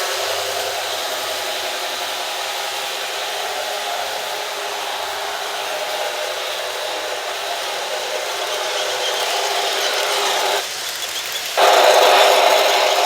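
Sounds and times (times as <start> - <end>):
model train whirring hiss: 0.0 - 13.0.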